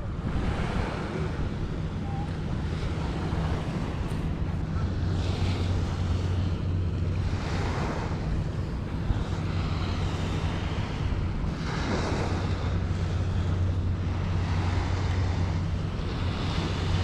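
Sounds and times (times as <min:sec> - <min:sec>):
small waves washing onto beach: 0:00.0 - 0:17.0
steady low hum: 0:00.0 - 0:17.0
wind on microphone: 0:00.0 - 0:17.0.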